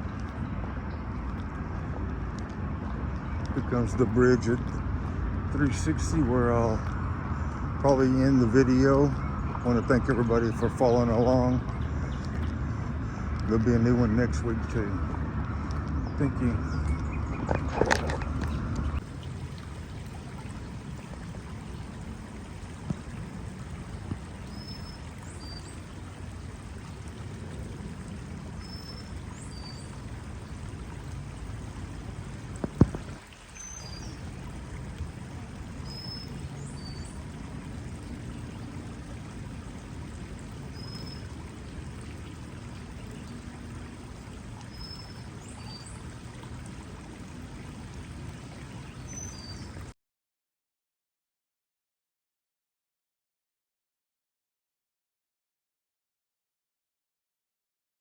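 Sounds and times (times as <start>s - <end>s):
flowing creek water: 0.0s - 50.0s.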